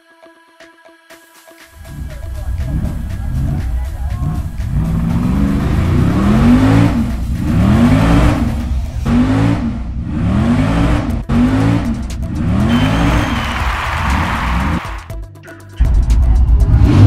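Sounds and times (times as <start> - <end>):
car engine revving: 1.8 - 15.1, 16.6 - 17.0.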